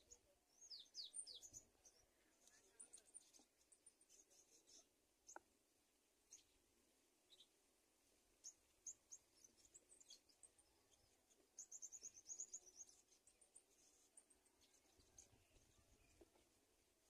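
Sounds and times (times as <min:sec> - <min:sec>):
faint high bird chirps: 0:00.0 - 0:05.5, 0:06.3 - 0:06.6, 0:07.3 - 0:07.6, 0:08.4 - 0:16.5.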